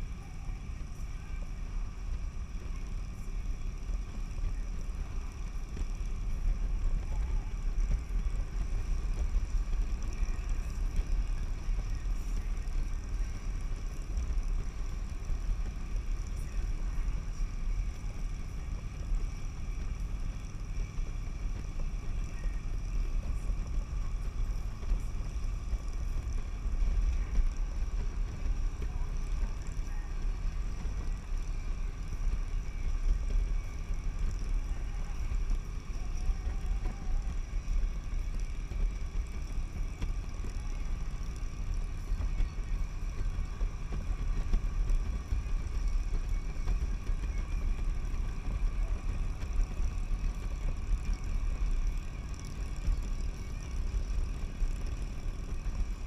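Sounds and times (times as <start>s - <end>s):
motorcycle engine drone: 0.0s - 56.0s.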